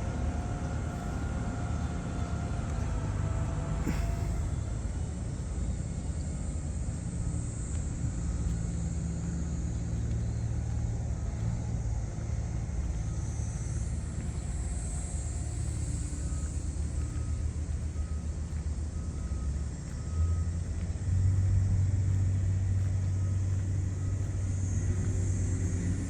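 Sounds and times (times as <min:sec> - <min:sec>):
combine harvester engine rumble: 0:00.0 - 0:26.0.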